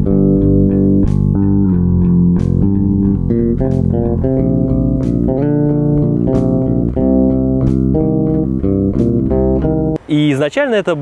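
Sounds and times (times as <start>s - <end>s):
sharp beat: 0.0s - 10.0s
bass and guitar riff: 0.0s - 10.1s.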